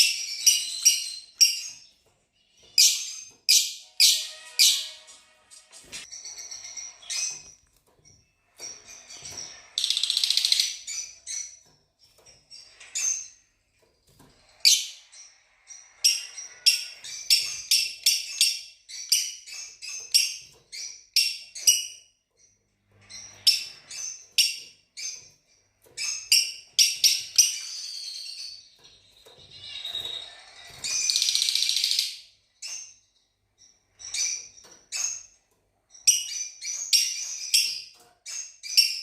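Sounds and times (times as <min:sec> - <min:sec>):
lovebirds chirping: 0:00.0 - 0:39.0.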